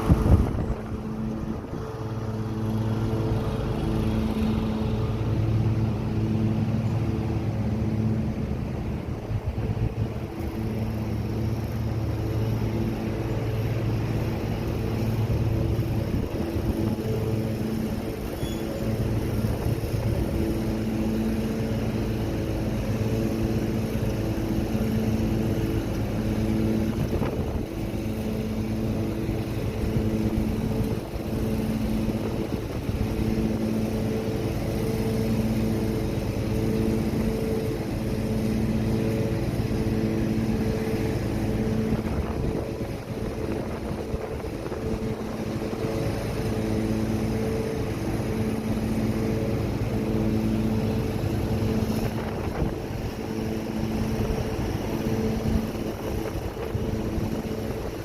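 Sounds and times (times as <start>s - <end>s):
pulsing motor-like hum: 0.0s - 58.0s
wind: 0.0s - 58.0s.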